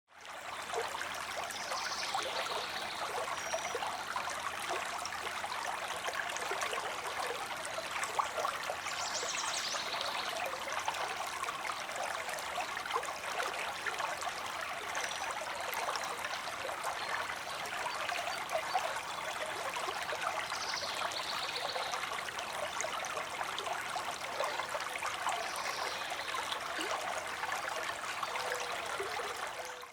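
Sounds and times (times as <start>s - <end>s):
stream running over rocks: 0.1s - 29.9s.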